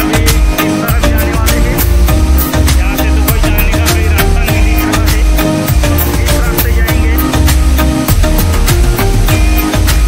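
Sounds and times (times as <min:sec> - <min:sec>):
loud music with drum beat: 0:00.0 - 0:10.0.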